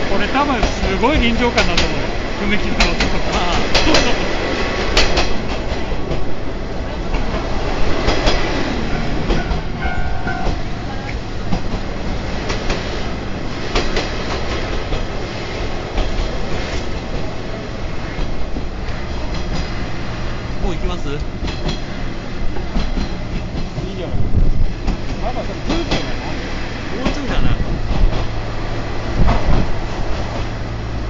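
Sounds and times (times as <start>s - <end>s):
wheels clicking over rail joints: 0.0s - 30.7s
train car running on track: 0.0s - 31.0s.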